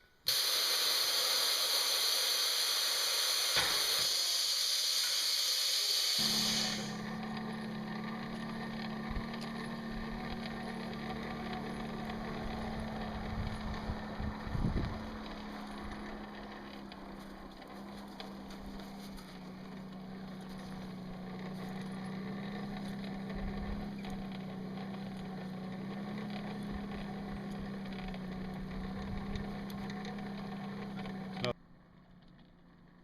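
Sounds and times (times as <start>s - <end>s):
machine humming: 0.0s - 31.5s.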